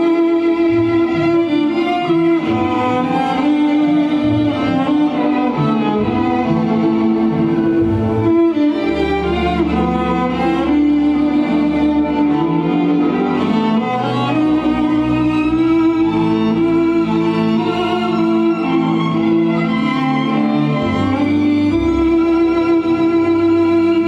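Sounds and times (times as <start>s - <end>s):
cello slow melody: 0.0s - 24.0s.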